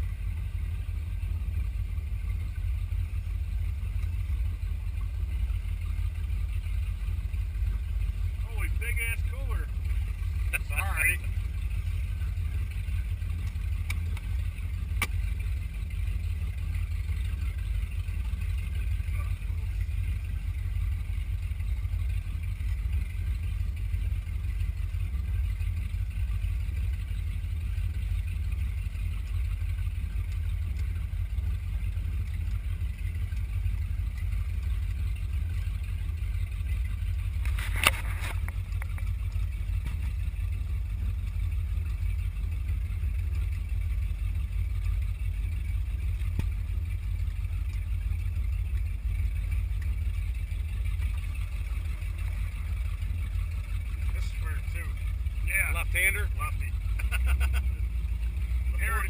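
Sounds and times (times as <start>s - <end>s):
powerboat engine rumble: 0.0s - 59.0s.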